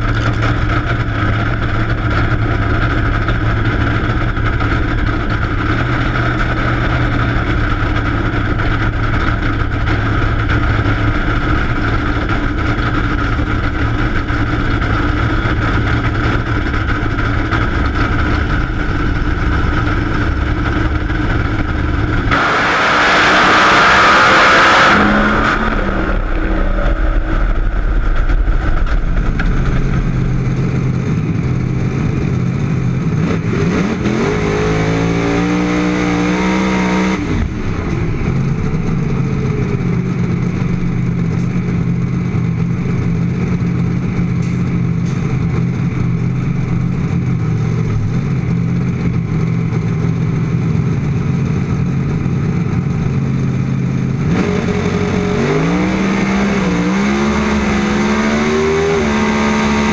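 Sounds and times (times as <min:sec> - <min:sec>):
race car engine revving: 0:00.0 - 0:41.4, 0:52.2 - 0:59.9.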